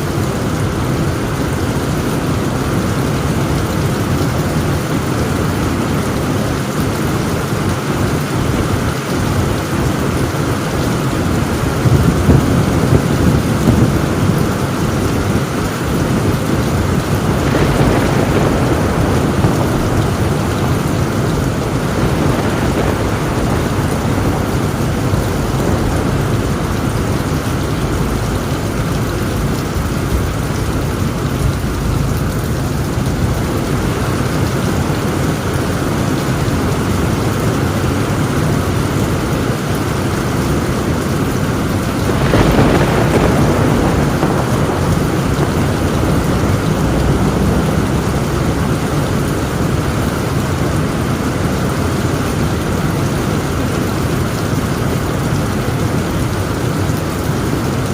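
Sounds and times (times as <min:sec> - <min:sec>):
heavy rain on a tin roof: 0:00.0 - 0:57.9
thunder rumbling: 0:00.0 - 0:57.9.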